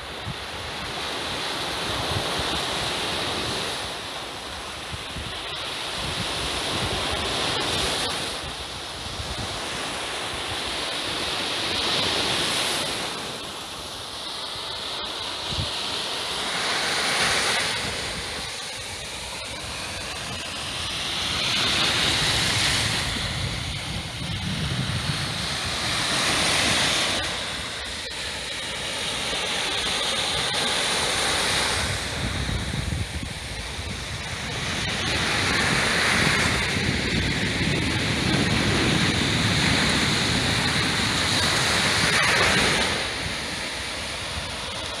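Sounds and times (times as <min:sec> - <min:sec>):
small waves breaking on sand: 0:00.0 - 0:45.0.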